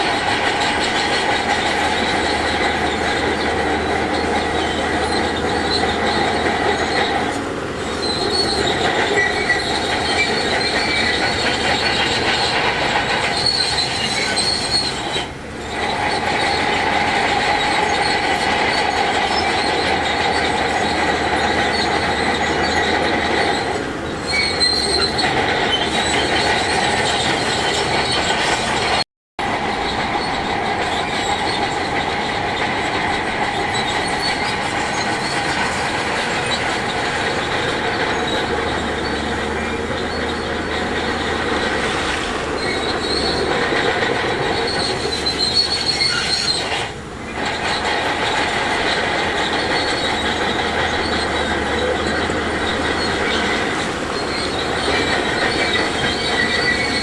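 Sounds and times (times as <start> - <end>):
bulldozer diesel engine under load: 0.0 - 57.0
steel tracks squealing and clattering: 0.0 - 57.0.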